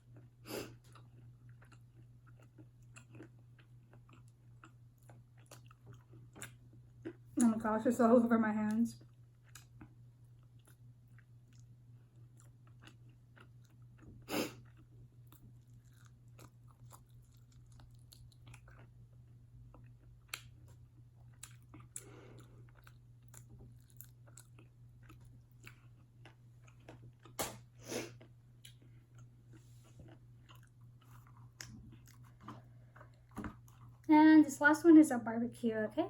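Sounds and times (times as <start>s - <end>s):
chewing and biting chicken: 0.0s - 7.2s, 9.0s - 34.1s.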